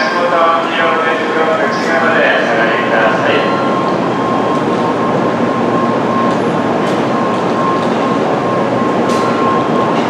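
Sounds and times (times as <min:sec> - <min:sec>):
thin steady whine: 0:00.0 - 0:10.0
train rolling rumble: 0:00.0 - 0:10.0.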